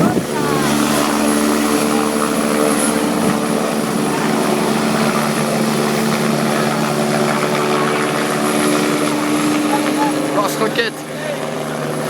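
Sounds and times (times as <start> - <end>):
helicopter running: 0.0 - 12.0.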